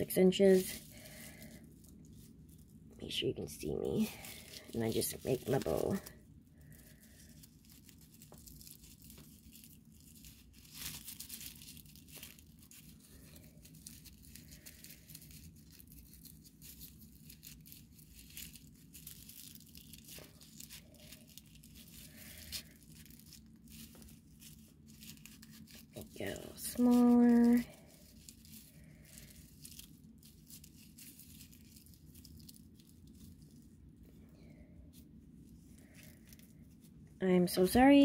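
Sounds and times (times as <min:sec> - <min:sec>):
raffia rustling and crinkling: 0:00.0 - 0:38.0.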